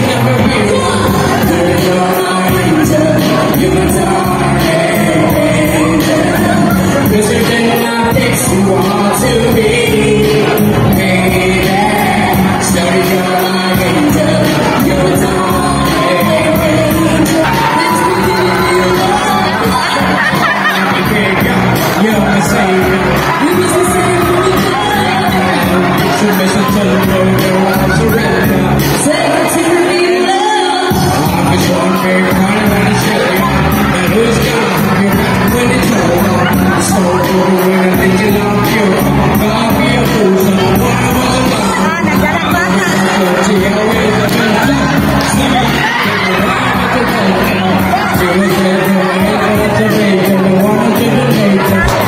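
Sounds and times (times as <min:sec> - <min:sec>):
amplified backing music: 0:00.0 - 0:52.0
live singing into microphones: 0:00.0 - 0:52.0.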